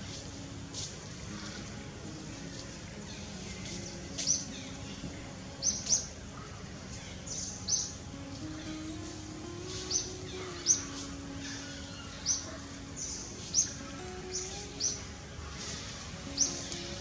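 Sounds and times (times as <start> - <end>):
birds chirping: 0.0 - 17.0
steady low background: 0.0 - 17.0.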